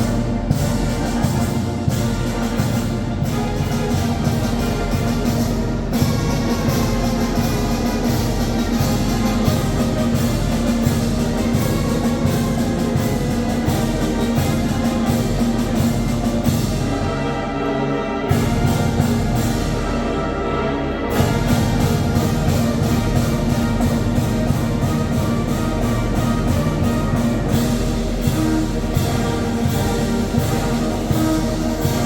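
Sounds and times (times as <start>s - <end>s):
brass band playing: 0.0s - 32.0s
steady drum beat: 0.0s - 32.0s.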